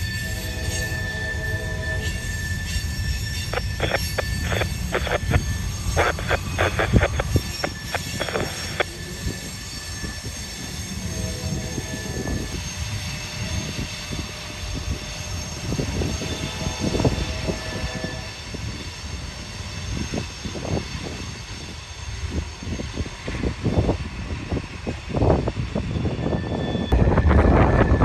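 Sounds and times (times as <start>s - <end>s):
steel wheels rumbling on rail: 0.0s - 28.0s.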